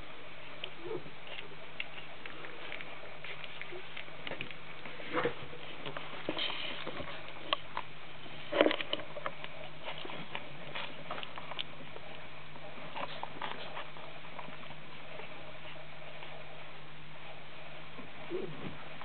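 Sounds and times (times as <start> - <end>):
puppies scuffling on blanket: 0.0 - 19.0
puppy noise: 0.1 - 8.6, 9.3 - 19.0.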